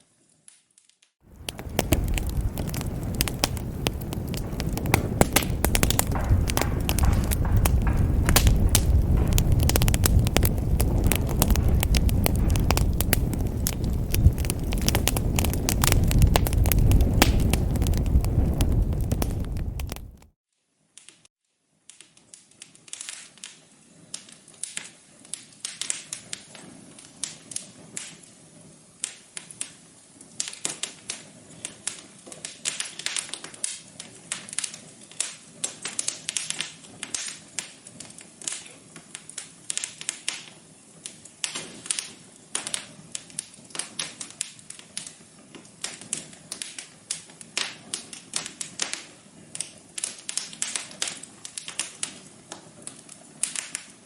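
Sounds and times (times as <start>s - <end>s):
wood fire crackling: 1.2s - 20.3s, 22.3s - 54.0s.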